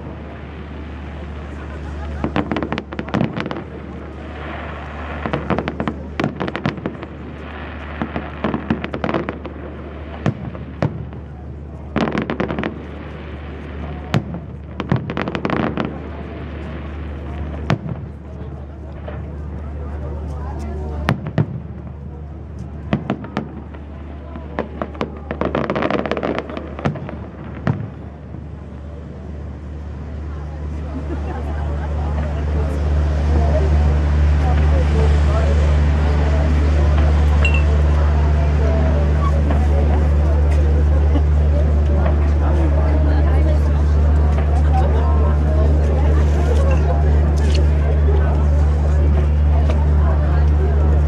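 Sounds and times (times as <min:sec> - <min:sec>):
fireworks crackling pops: 0:00.0 - 0:50.7.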